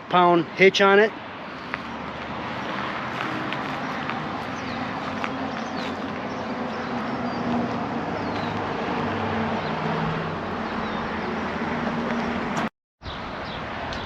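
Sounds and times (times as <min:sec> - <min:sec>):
vehicle hum: 0:01.1 - 0:14.0.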